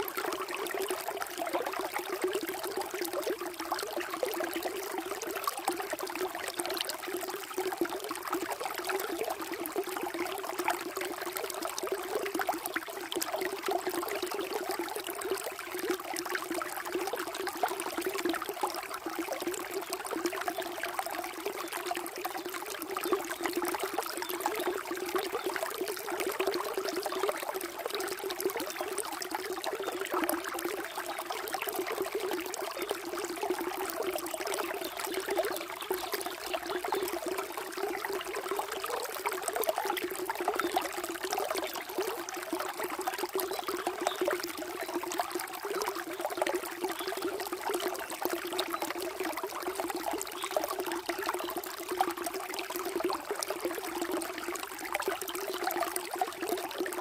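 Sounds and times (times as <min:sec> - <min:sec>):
water flowing and trickling: 0:00.0 - 0:57.0.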